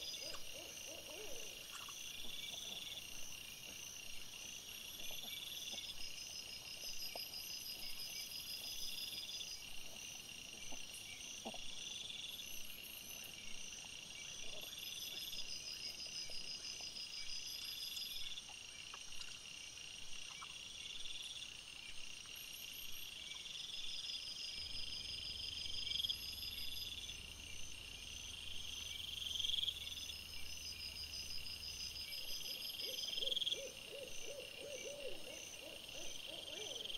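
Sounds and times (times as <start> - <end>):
insect chirps: 0.0 - 36.9
insects trilling: 0.0 - 36.9
low pulsing insect call: 0.0 - 36.9.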